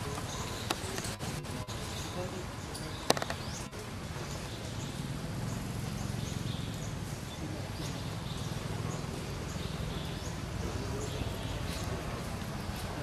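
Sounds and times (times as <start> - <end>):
faint high chirps: 0.0 - 12.9.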